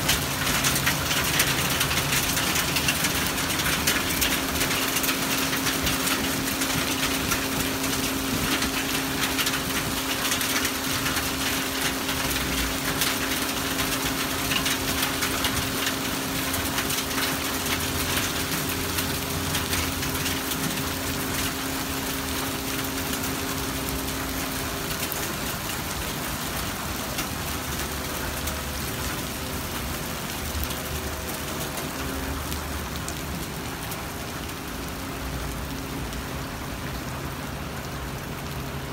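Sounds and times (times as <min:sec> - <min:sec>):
hail and rain falling: 0:00.0 - 0:38.9.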